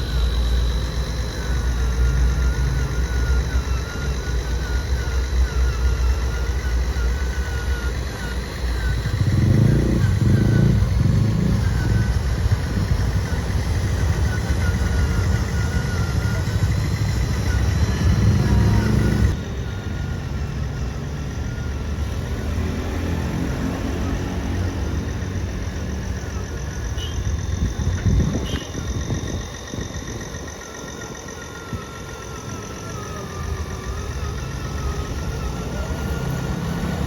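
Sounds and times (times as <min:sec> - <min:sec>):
model motor rumble: 0:00.0 - 0:37.0.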